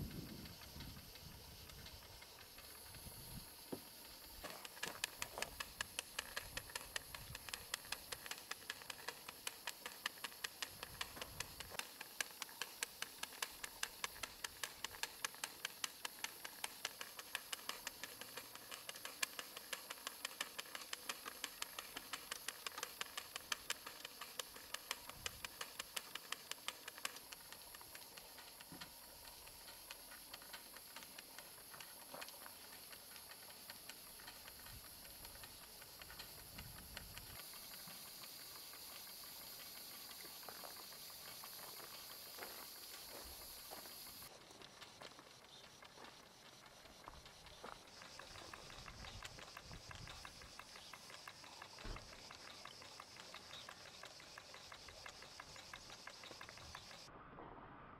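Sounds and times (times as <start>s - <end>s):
steady steam hiss: 0.0s - 57.1s
steam engine exhaust puffing: 0.0s - 57.1s.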